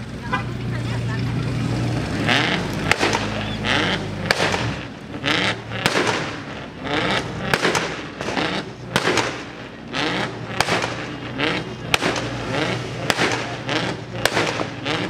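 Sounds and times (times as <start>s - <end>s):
sharp bangs: 2.2s - 15.0s.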